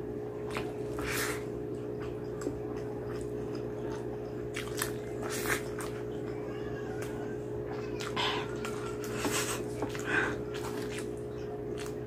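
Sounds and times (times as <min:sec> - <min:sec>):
steady background hum: 0:00.0 - 0:12.0
wet chewing with mouth clicks: 0:00.2 - 0:12.0.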